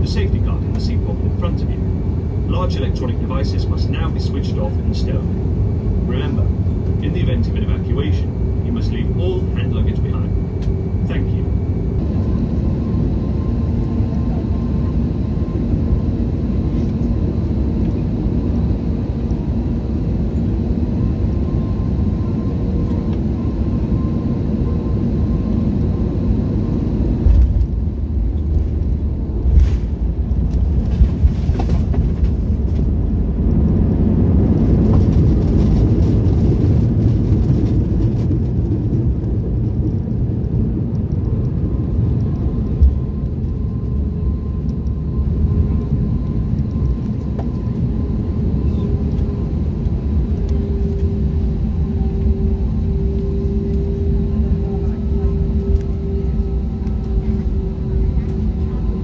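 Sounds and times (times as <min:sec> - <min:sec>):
aircraft cabin air rush and hum: 0:00.0 - 0:59.0
aircraft rumble on runway: 0:00.0 - 0:59.0.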